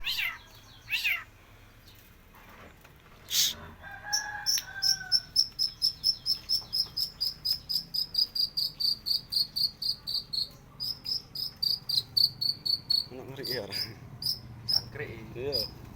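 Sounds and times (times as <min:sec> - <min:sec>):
bird sharp calls: 0:00.0 - 0:01.3, 0:03.2 - 0:15.9
fast high bird chirping: 0:00.0 - 0:01.3, 0:04.1 - 0:15.9.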